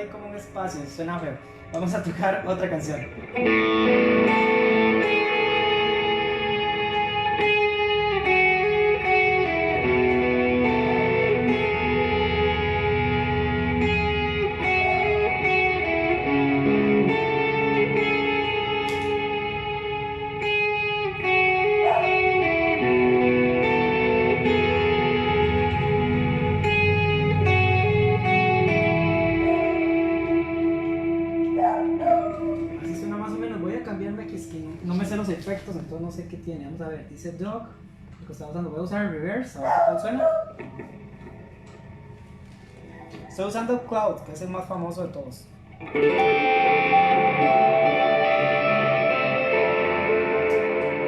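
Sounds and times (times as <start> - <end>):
electric guitar ringing chords: 0.0 - 39.3, 40.6 - 51.0.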